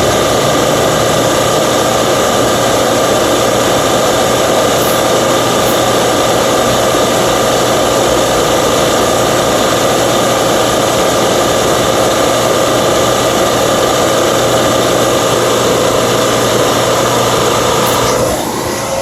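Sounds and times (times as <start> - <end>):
loud even hiss: 0.0 - 19.0
machine motor humming: 0.0 - 19.0.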